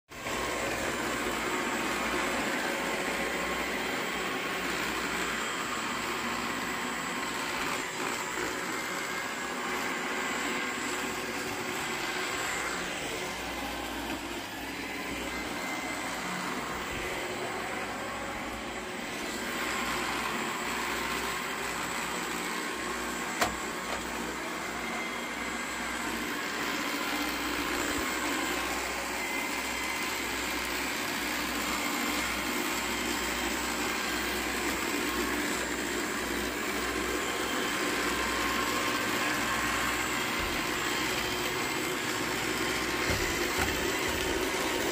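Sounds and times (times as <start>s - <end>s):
robot vacuum whirring: 0.1s - 44.9s.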